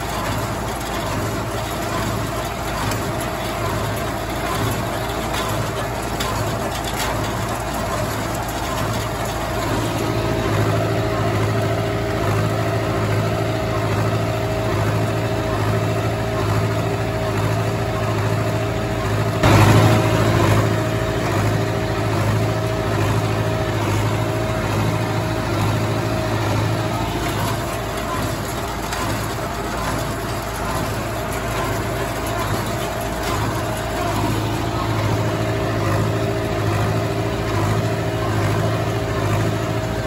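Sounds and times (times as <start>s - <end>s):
loud clatter: 0.0s - 40.0s
tractor engine running: 0.0s - 40.0s.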